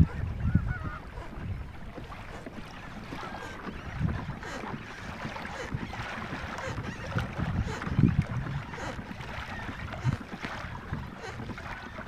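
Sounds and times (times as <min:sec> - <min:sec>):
water sloshing against kayak: 0:00.0 - 0:12.0
wind buffeting microphone: 0:00.0 - 0:12.0.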